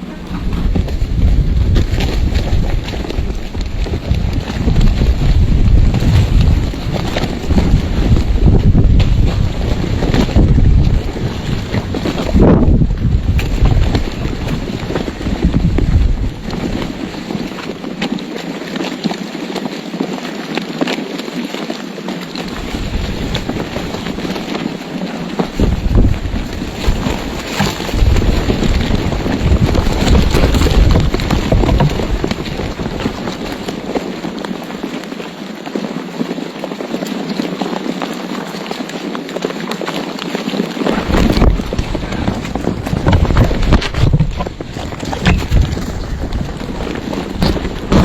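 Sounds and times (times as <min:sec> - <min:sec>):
wind noise on microphone: 0:00.0 - 0:48.0.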